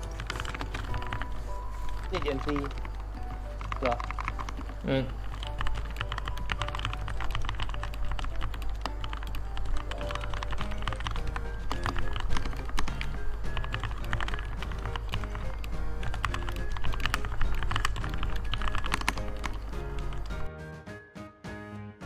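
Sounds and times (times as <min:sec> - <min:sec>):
mechanical keyboard typing: 0:00.0 - 0:20.5
background music: 0:00.0 - 0:22.0.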